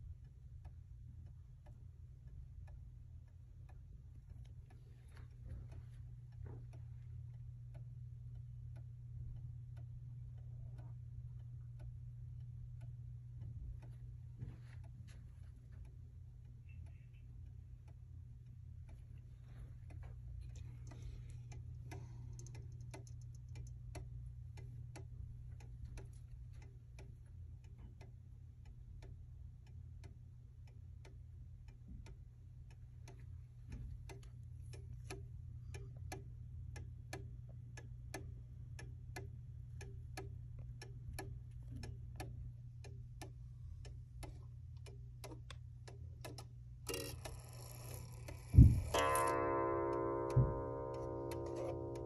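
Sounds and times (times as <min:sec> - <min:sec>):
low hum: 0:00.0 - 0:52.0
pendulum clock ticking: 0:00.0 - 0:52.0.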